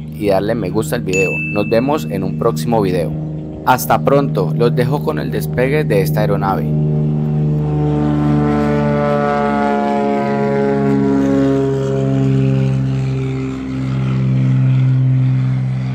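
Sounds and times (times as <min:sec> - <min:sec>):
propeller plane engine droning: 0:00.0 - 0:15.9.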